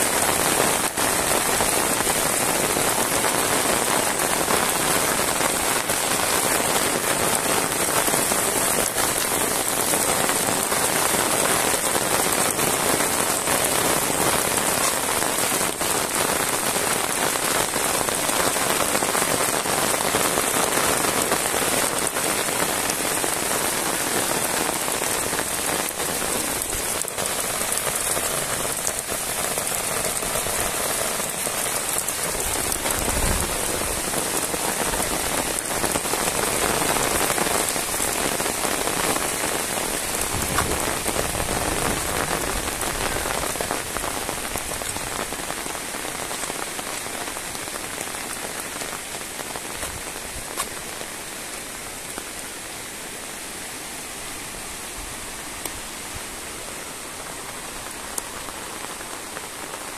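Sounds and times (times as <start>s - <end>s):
heavy rain on road: 0.0s - 59.9s.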